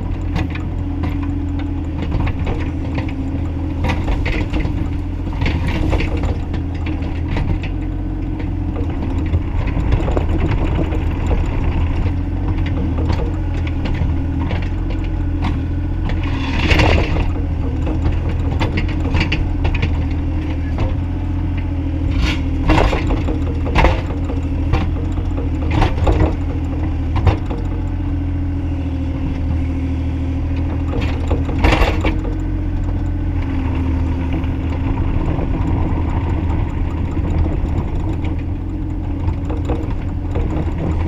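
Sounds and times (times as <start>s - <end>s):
excavator engine droning: 0.0s - 41.0s
machine clanks and rattles: 0.0s - 41.0s.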